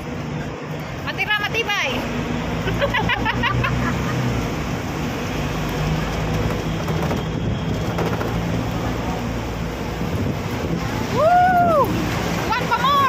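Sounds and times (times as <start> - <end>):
bus engine hum: 0.0 - 13.0
traffic noise: 0.0 - 13.0
wind: 0.0 - 13.0.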